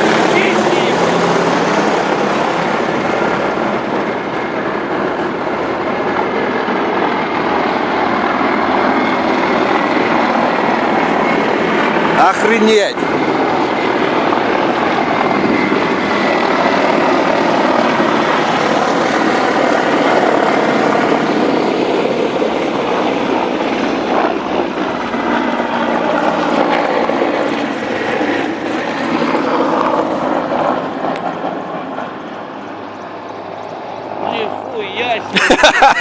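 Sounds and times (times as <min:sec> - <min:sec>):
helicopters flying overhead: 0:00.0 - 0:36.0.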